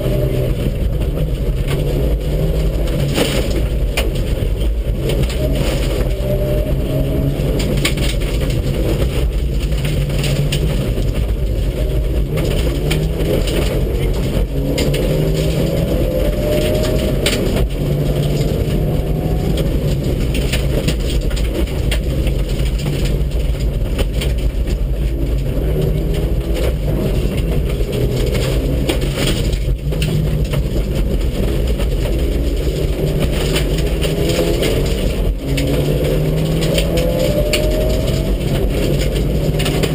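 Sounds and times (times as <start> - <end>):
car engine accelerating: 0.0 - 39.9
gravel hitting car: 0.0 - 39.9
road noise rumble: 0.0 - 39.9.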